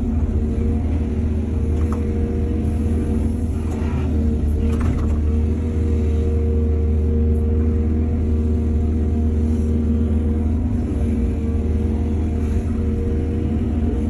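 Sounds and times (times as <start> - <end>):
excavator diesel engine rumbling: 0.0 - 14.0.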